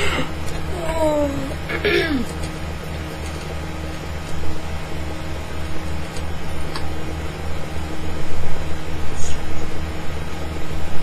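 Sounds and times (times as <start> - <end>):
low throbbing hum with hiss: 0.0 - 11.0.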